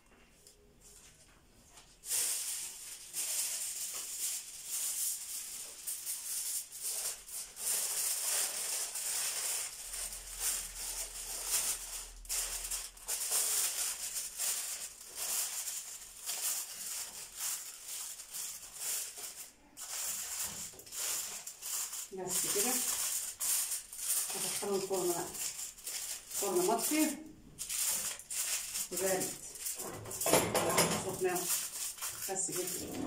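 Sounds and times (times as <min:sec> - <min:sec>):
aluminium foil crinkling: 0:01.7 - 0:33.0.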